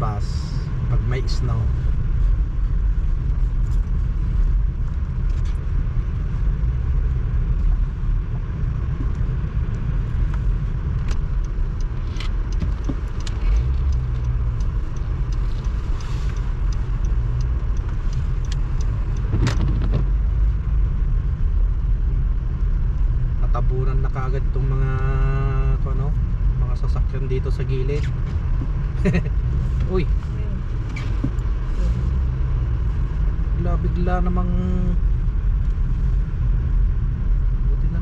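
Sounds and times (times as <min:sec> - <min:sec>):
car interior road rumble: 0:00.0 - 0:38.0.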